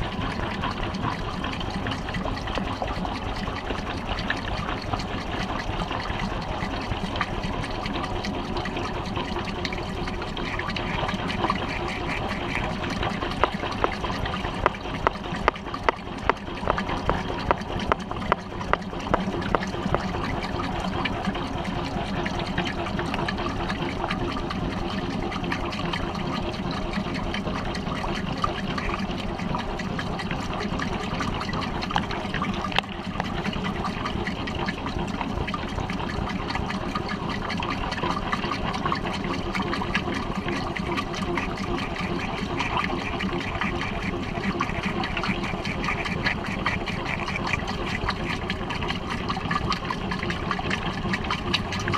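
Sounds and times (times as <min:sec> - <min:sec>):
water rushing in washing machine tub: 0:00.0 - 0:51.9.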